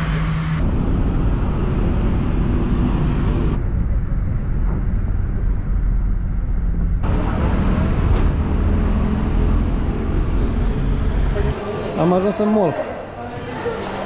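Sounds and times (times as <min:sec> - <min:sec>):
engine and tyre road rumble: 0:00.0 - 0:11.6.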